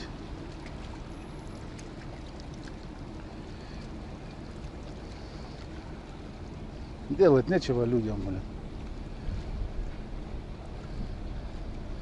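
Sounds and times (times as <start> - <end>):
boat engine humming: 0.0 - 12.0
water noise: 0.0 - 12.0.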